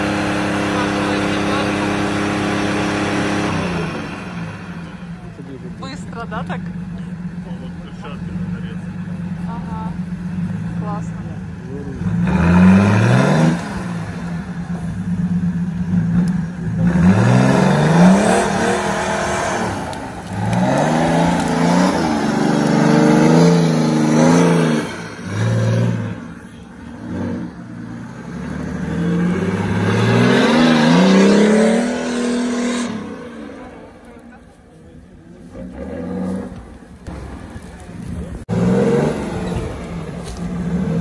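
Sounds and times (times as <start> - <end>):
buggy engine revving: 0.0 - 41.0.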